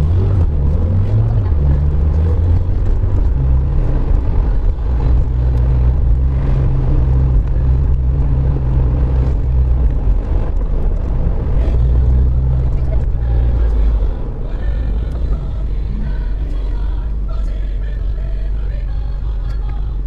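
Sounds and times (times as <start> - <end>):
car engine hum: 0.0 - 20.0.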